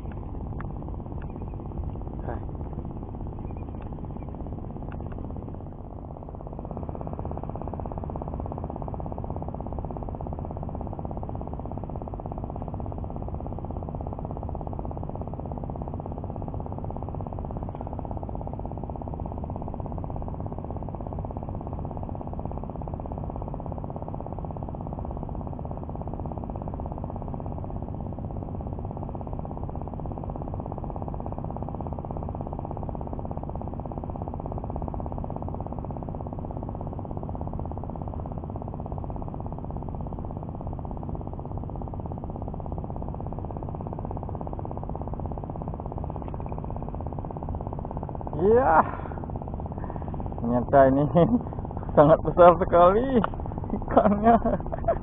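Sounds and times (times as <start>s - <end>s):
low rumble of outdoor background: 0.0s - 55.0s.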